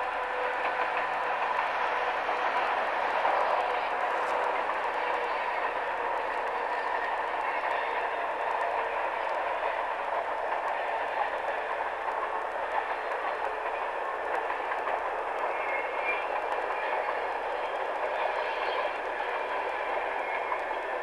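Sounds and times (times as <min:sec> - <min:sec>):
distant freight train passing: 0:00.0 - 0:21.0.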